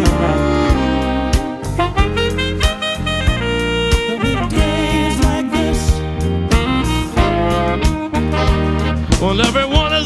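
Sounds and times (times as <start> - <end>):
instrumental pop music: 0.0 - 10.0.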